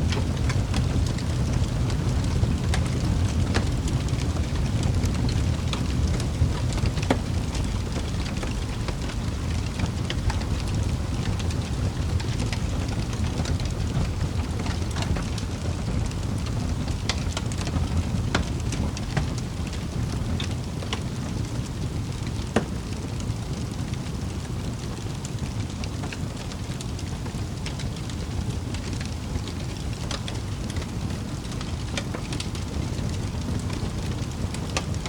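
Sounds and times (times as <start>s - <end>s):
fire crackles and pops: 0.0s - 35.0s
fire flames rumbling: 0.0s - 35.0s.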